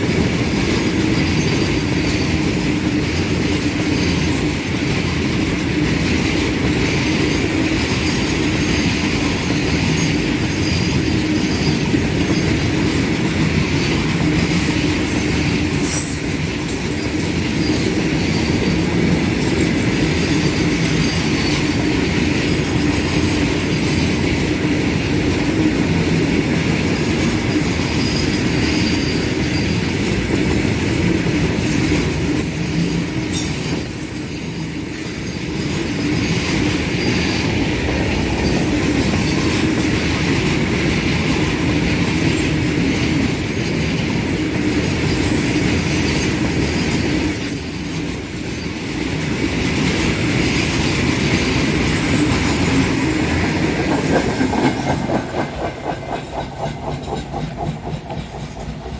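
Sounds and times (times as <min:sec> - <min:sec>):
freight train wheels clattering: 0:00.0 - 0:58.9.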